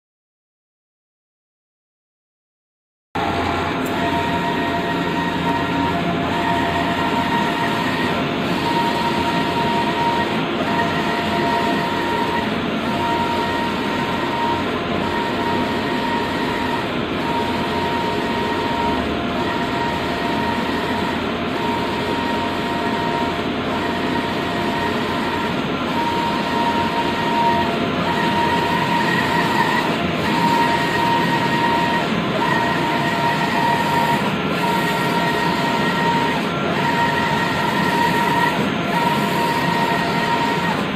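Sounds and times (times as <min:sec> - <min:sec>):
printer mechanical whir: 0:03.2 - 0:40.9.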